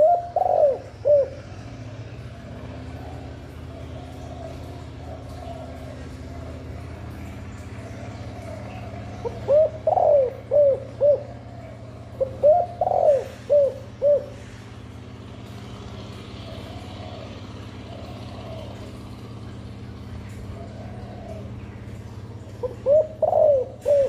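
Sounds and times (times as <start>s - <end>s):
dove cooing: 0.0s - 24.0s
steady low hum: 0.0s - 24.0s.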